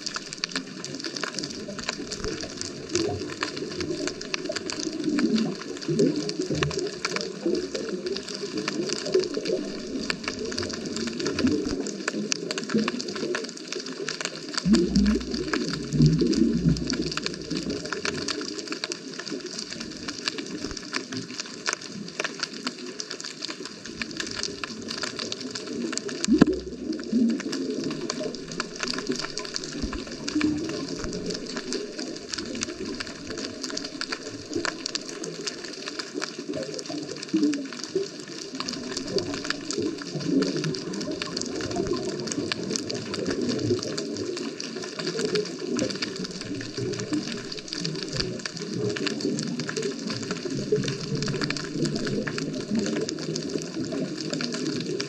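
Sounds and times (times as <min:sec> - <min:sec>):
fine underwater crackling: 0:00.0 - 0:55.0
water bubbling and gurgling: 0:00.0 - 0:55.0.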